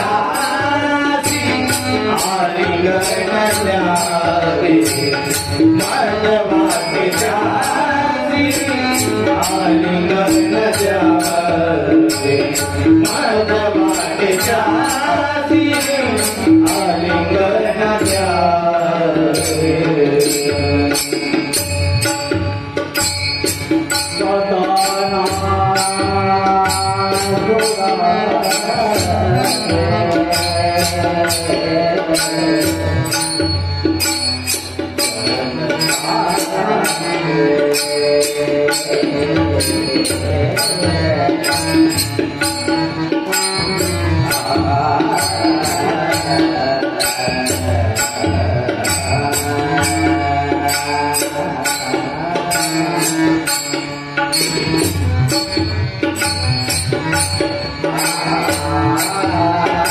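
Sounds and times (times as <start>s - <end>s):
man singing: 0.0s - 59.9s
percussion beat: 0.0s - 59.9s.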